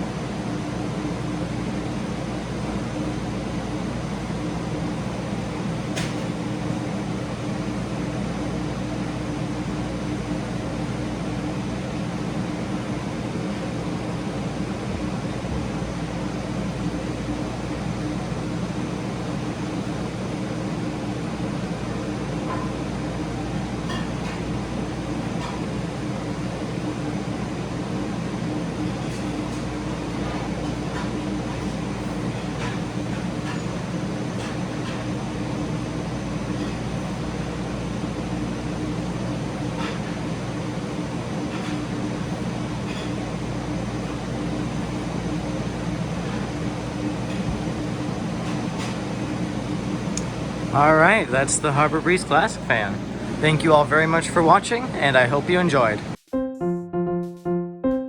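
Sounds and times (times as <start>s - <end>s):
ceiling fan coasting down: 0.0s - 56.2s
ceiling fans whooshing: 0.0s - 56.2s.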